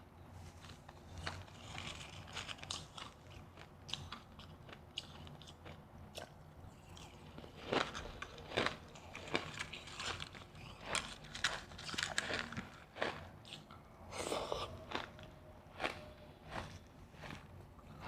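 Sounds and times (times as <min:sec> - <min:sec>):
chewing crunchy ice: 0:00.6 - 0:18.0.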